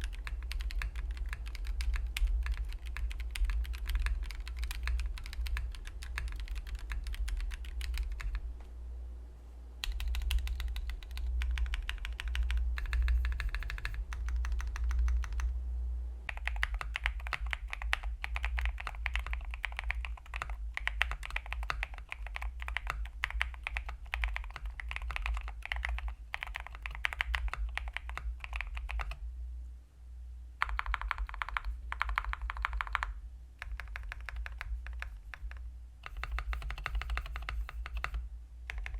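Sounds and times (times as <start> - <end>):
mechanical keyboard typing: 0.0 - 8.4, 9.8 - 15.5, 16.3 - 29.2, 30.6 - 38.9
steady low hum: 0.0 - 38.9.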